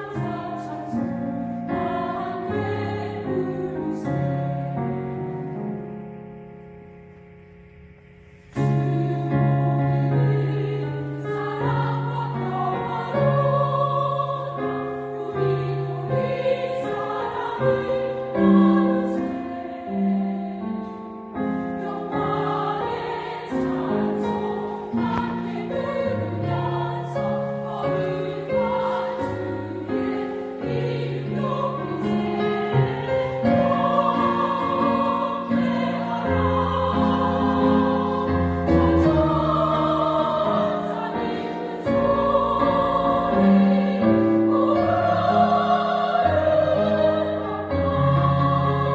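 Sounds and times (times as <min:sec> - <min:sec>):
vocal ensemble singing a hymn: 0:00.0 - 0:05.6, 0:08.5 - 0:48.9.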